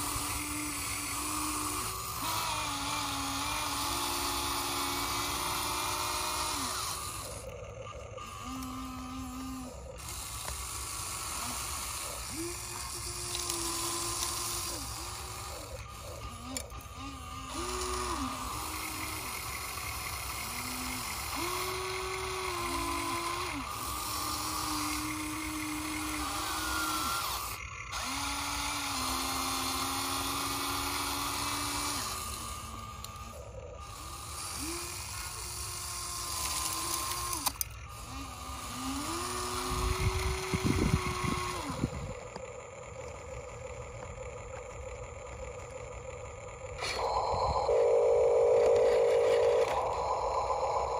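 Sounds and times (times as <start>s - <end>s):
electric motors whining: 0.0s - 50.9s.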